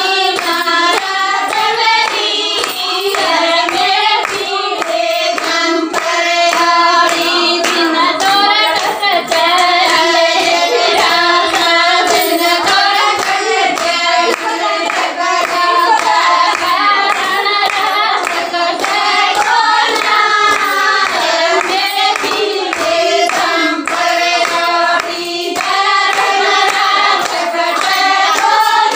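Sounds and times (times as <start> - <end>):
steady handclaps: 0.0 - 28.9
women singing folk song: 0.0 - 28.9.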